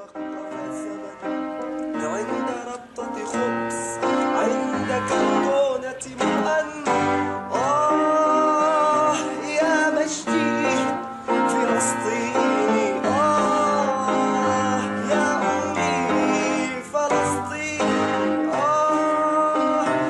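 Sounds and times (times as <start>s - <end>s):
person singing: 0.0s - 20.0s
piano accompaniment: 0.0s - 20.0s.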